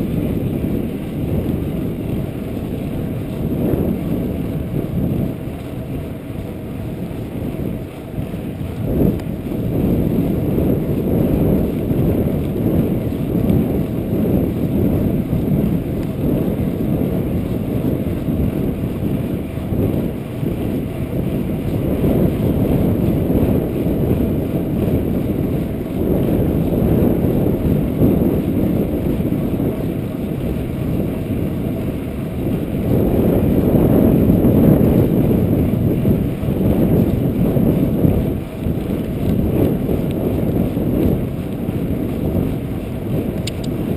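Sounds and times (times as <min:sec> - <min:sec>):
wind rumble on microphone: 0:00.0 - 0:43.9.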